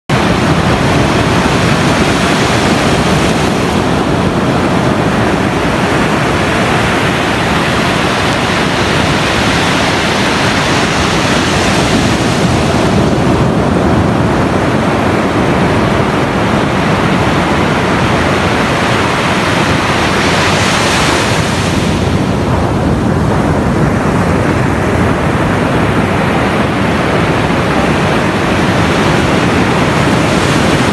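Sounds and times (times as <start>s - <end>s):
ocean surf breaking on beach: 0.1s - 30.9s.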